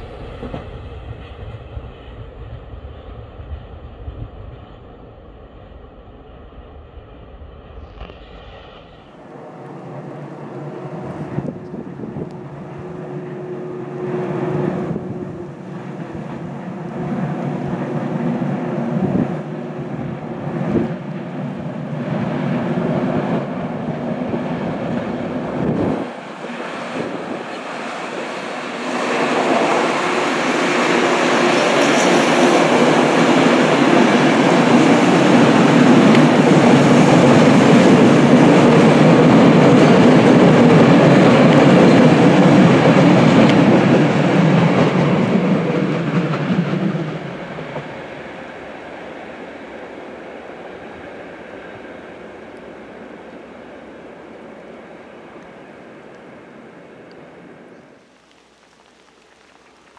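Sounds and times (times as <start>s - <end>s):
train rolling past: 0.0s - 58.1s
locomotive hum: 0.0s - 59.9s.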